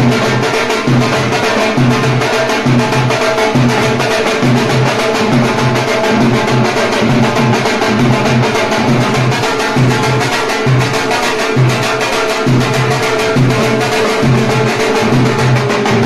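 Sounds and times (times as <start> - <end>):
dhol beaten with sticks: 0.0 - 16.0.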